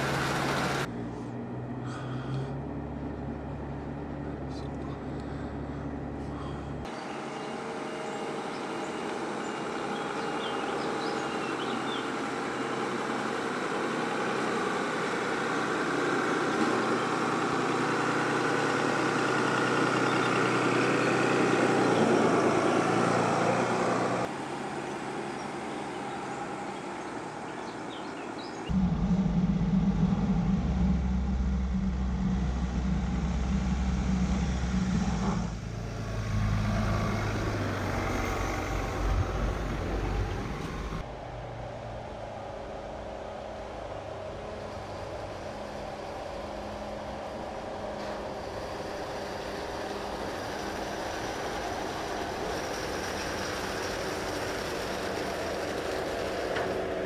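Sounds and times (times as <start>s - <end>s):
deep steady engine hum: 0.0s - 57.0s
vehicle driving at crawling speed: 0.0s - 57.0s.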